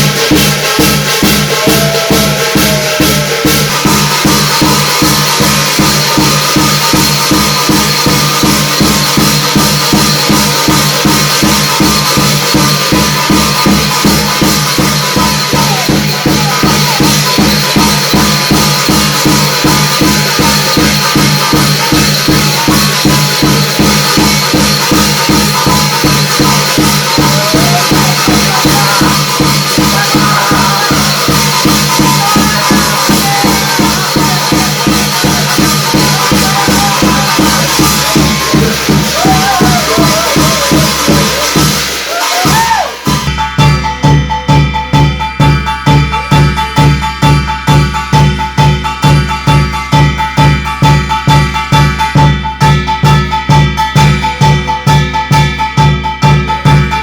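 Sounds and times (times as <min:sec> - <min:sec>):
shimmering metallic wash: 0:00.0 - 0:47.9
fast drum beats: 0:00.0 - 0:57.0
shaken bells or rattles: 0:00.0 - 0:57.0.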